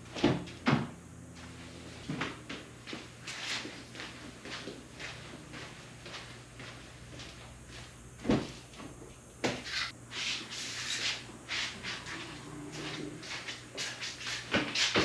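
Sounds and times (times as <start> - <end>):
faint low hum: 0.0 - 14.6.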